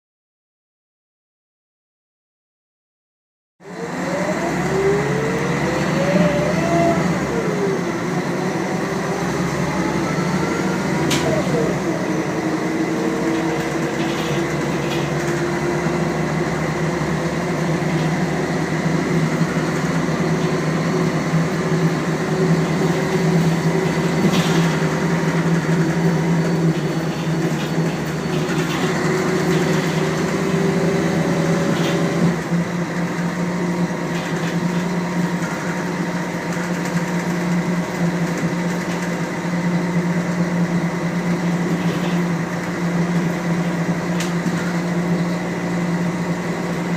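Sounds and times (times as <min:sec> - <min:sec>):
bus diesel engine running: 0:03.6 - 0:46.9.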